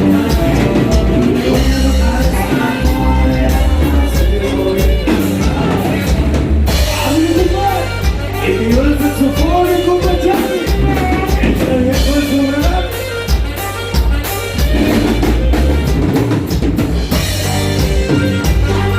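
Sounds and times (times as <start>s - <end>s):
live band music: 0.0s - 18.9s.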